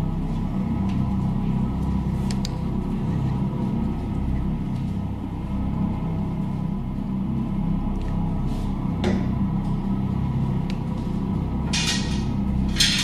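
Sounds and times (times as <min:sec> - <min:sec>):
low drone score: 0:00.0 - 0:13.0.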